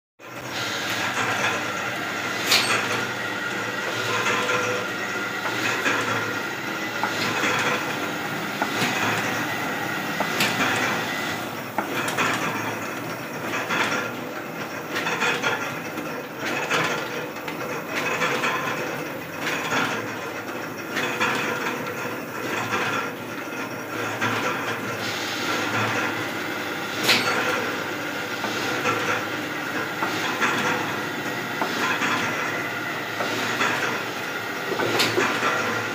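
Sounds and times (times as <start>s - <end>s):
printing press clatter: 0.4s - 35.9s.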